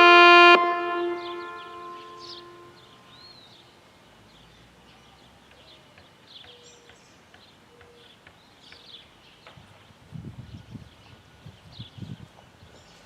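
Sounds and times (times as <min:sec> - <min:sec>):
small birds chirping: 0:01.0 - 0:13.0.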